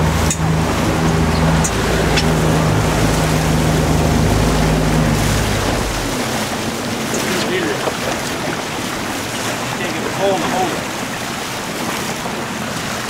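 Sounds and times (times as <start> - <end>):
motorboat engine running: 0.0 - 13.0
water noise: 0.0 - 13.0
wind: 0.0 - 13.0.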